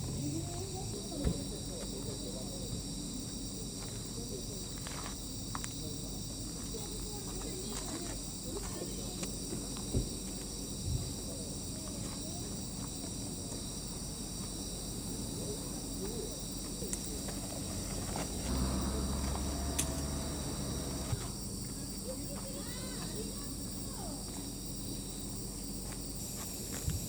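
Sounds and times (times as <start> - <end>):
crickets singing: 0.0 - 27.0.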